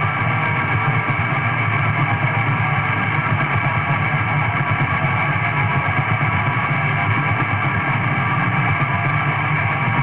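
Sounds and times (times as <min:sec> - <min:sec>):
distorted guitar and bass: 0:00.0 - 0:10.0.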